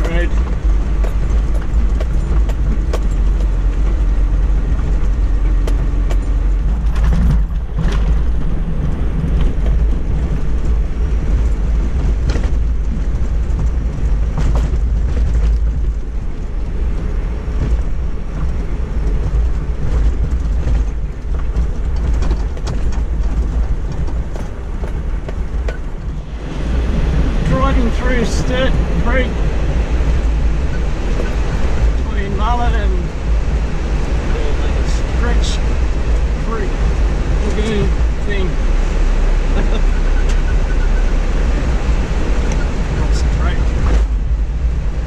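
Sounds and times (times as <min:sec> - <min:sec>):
knocks and rattles from bumps: 0:00.0 - 0:45.0
vehicle engine and tyres rumbling: 0:00.0 - 0:45.0.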